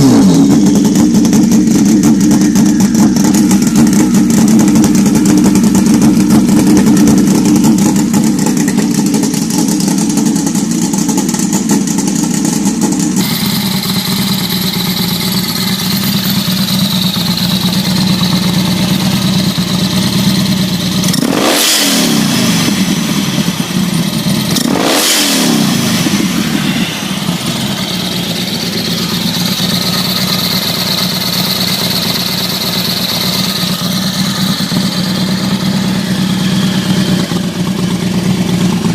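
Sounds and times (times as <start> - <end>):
motorcycle engines running loud: 0.0 - 38.9.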